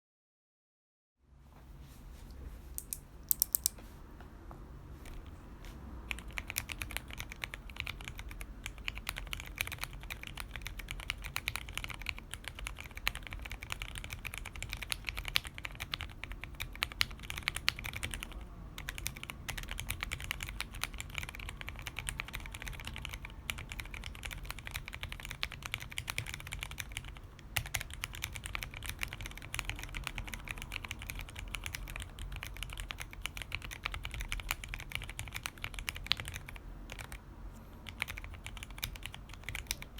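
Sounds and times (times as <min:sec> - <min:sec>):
fast typing on keyboard: 0:06.0 - 0:37.2, 0:37.8 - 0:39.9.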